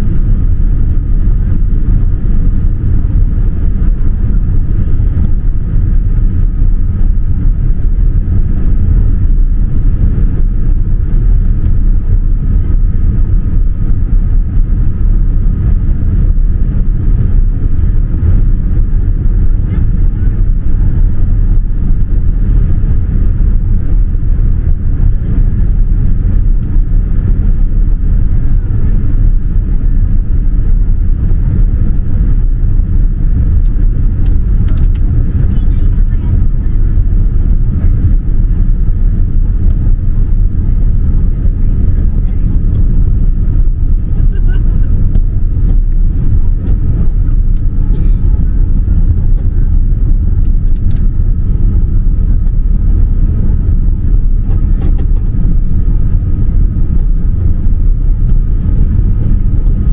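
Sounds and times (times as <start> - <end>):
airplane cabin engine rumble: 0.0 - 59.9
faint steady whine: 0.0 - 59.9.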